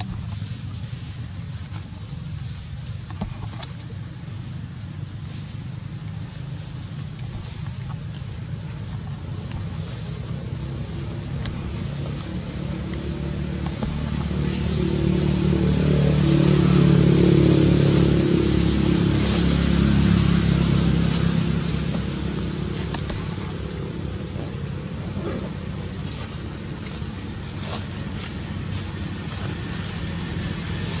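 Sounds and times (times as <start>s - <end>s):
vehicle engine passing: 3.6s - 31.0s.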